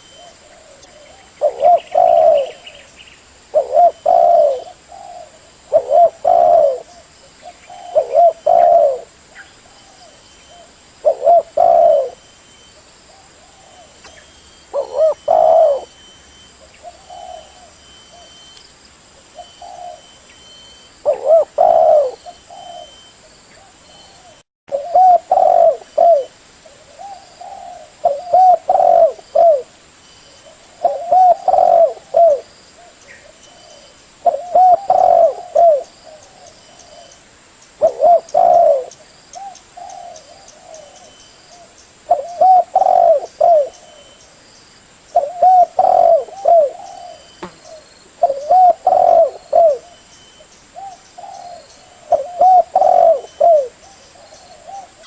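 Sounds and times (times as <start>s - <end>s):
dove cooing: 0.0s - 2.9s, 3.5s - 12.3s, 13.1s - 18.4s, 19.3s - 20.2s, 21.0s - 29.7s, 30.4s - 37.2s, 37.8s - 44.2s, 45.1s - 50.0s, 50.7s - 55.0s.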